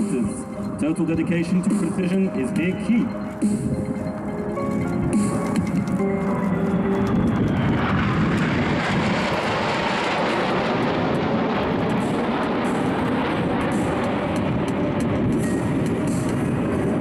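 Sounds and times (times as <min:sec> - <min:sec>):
fighter jets flying past: 0:00.0 - 0:17.0.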